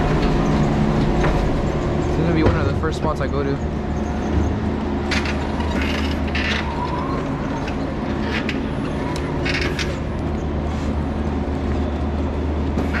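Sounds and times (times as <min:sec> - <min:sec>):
pallet jack rattles and clatters: 0:00.0 - 0:10.7, 0:11.3 - 0:13.0
low machine hum: 0:00.0 - 0:13.0.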